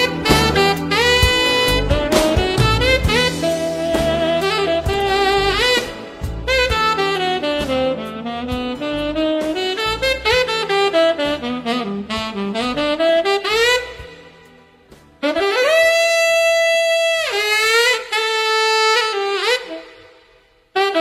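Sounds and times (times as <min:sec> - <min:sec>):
saxophone solo melody: 0:00.0 - 0:21.0.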